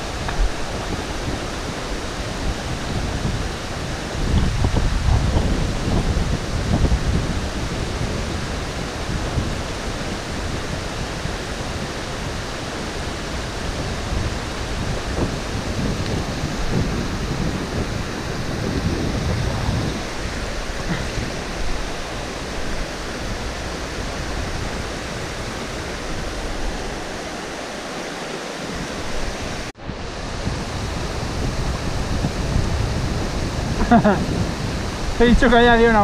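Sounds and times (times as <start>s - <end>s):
river water rushing: 0.0s - 36.0s
wind rumble on microphone: 0.0s - 36.0s.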